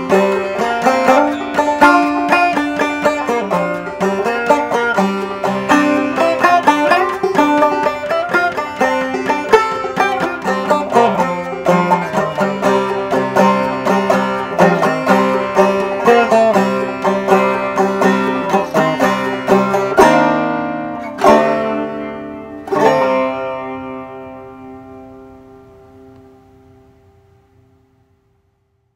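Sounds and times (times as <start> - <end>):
banjo plucking and strumming: 0.0 - 26.4.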